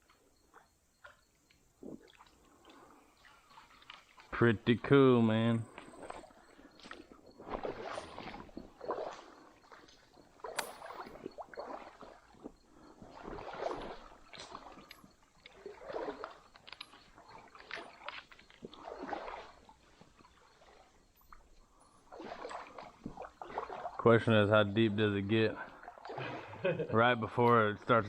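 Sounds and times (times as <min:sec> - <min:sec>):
water sloshing and splashing: 0:00.0 - 0:28.0.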